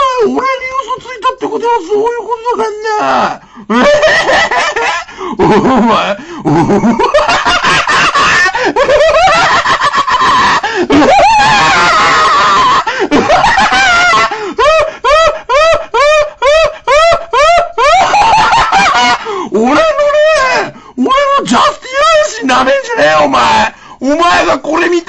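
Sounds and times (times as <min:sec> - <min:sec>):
man laughing and shrieking: 0:00.0 - 0:25.0.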